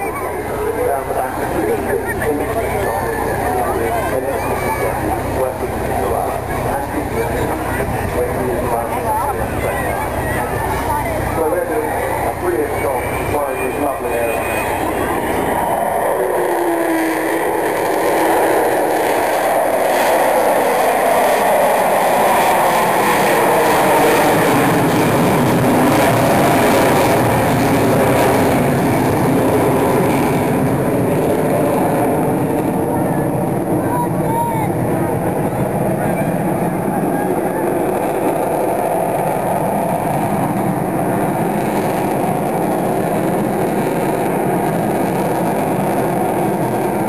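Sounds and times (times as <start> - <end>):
jet bomber flying overhead: 0.0 - 47.0.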